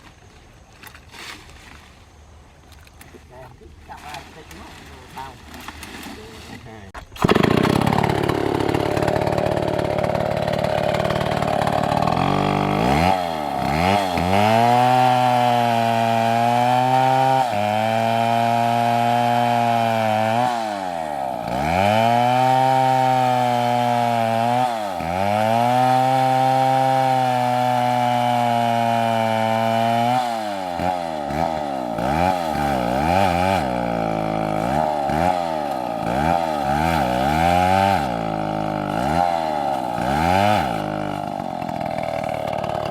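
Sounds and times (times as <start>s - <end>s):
chainsaw cutting wood: 7.0s - 42.9s.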